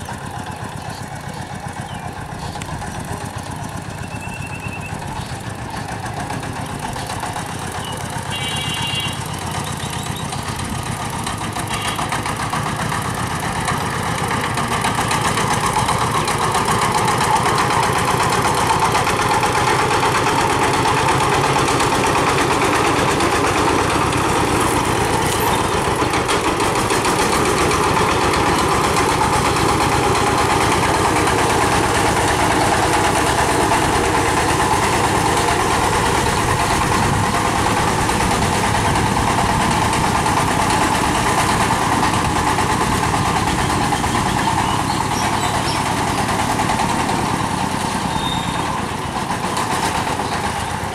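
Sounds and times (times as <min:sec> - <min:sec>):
diesel engine chugging: 0:00.0 - 0:50.9.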